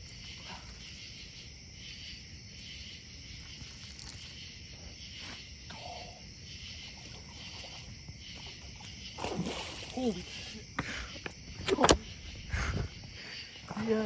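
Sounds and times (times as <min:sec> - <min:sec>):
crickets and night insects: 0:00.0 - 0:14.0.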